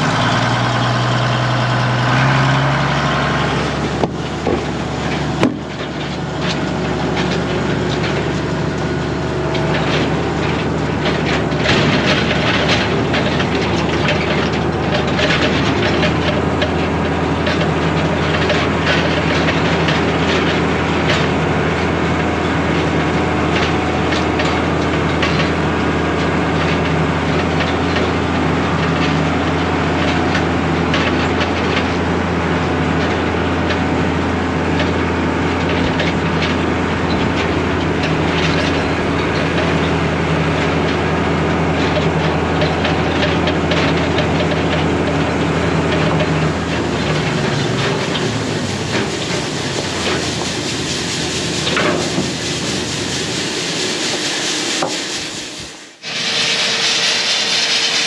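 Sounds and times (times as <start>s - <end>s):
wagon rattling and clanking: 0.0s - 55.8s
tractor engine running: 0.0s - 58.0s.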